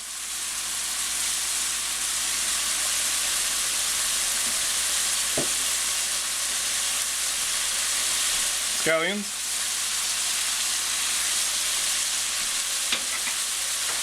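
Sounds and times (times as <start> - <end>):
filling sizzling in oil: 0.0 - 14.0.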